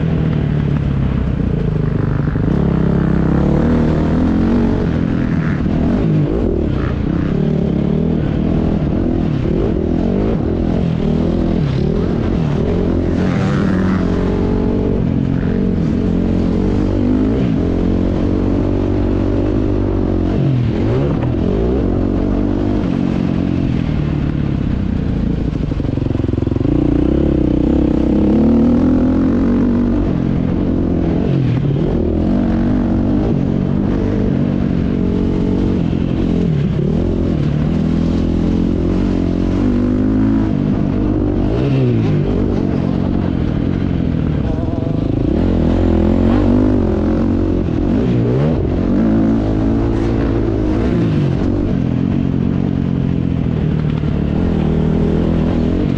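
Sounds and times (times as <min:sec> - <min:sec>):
motocross engine revving: 0:01.8 - 0:23.2, 0:26.2 - 0:52.5.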